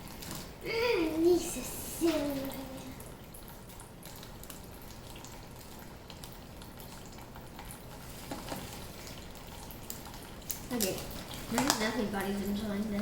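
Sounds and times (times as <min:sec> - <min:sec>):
low water hiss: 0:00.0 - 0:13.0.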